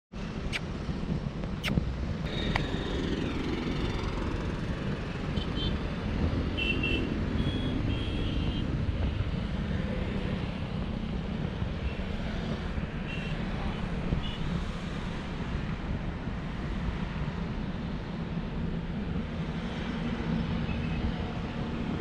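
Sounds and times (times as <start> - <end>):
wind and road noise: 0.1 - 22.0.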